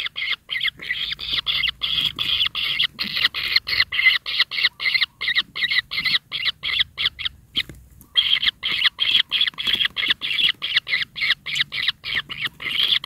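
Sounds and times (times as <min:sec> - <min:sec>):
nestlings rasping begging calls: 0:00.0 - 0:13.0.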